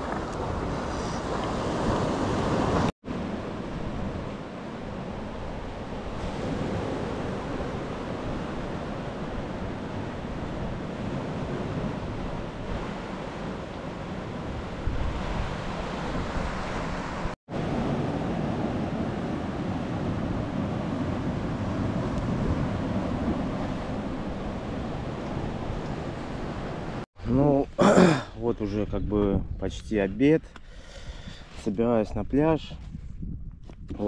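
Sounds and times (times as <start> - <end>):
wind buffeting microphone: 0.0 - 27.0, 28.5 - 30.4, 32.1 - 34.0.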